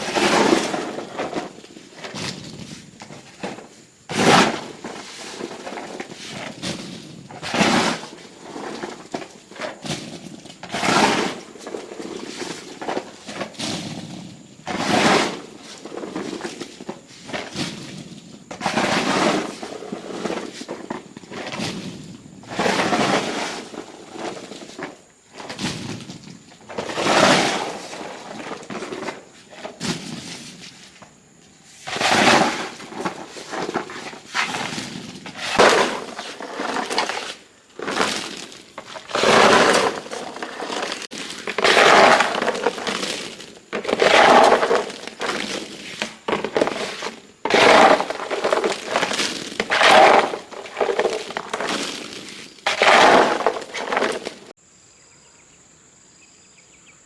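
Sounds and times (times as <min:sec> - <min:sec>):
insects: 0:00.0 - 0:57.0.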